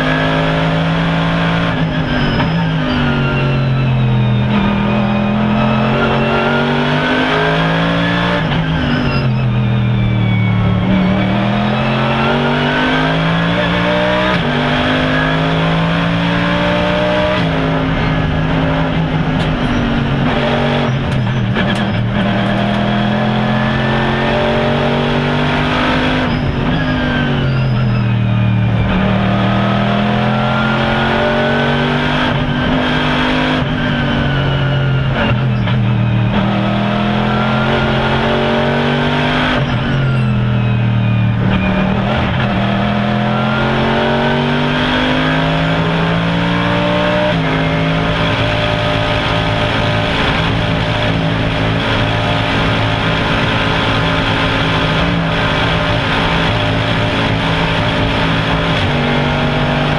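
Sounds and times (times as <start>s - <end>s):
racing car engine through gears: 0.0s - 59.9s.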